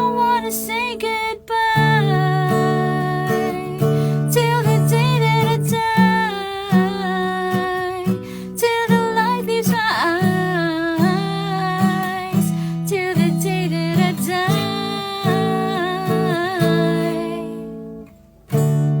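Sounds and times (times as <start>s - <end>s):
plucked acoustic guitar: 0.0s - 19.0s.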